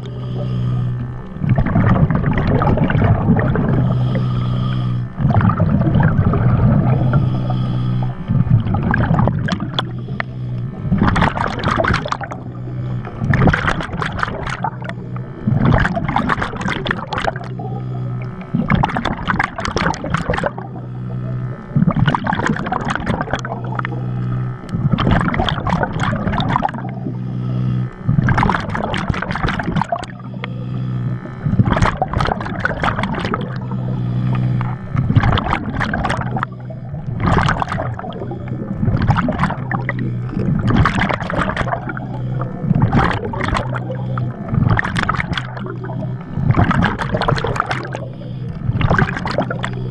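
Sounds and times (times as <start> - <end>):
exhaled bubbles rushing: 0.0 - 49.9
steady low hum: 0.0 - 49.9.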